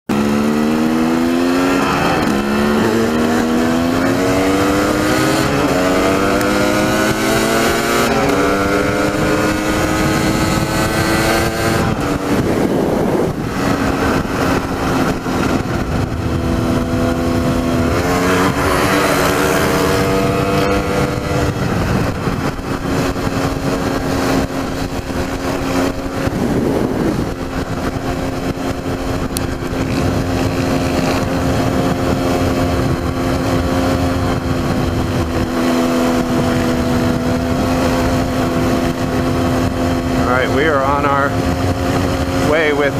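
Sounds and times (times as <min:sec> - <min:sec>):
dirt bike engine accelerating: 0:00.1 - 0:42.9.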